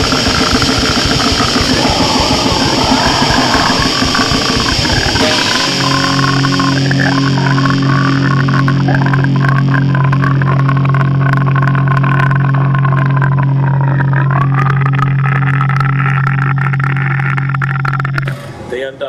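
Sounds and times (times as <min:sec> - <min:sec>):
wavering higher tone: 0:00.0 - 0:18.3
distorted low drone: 0:00.0 - 0:18.7.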